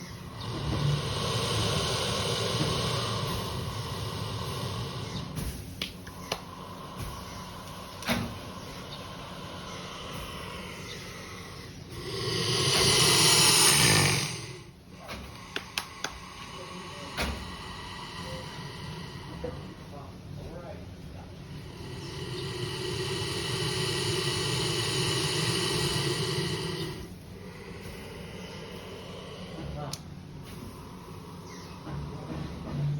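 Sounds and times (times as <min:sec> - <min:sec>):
alligator hissing: 0:00.0 - 0:32.9.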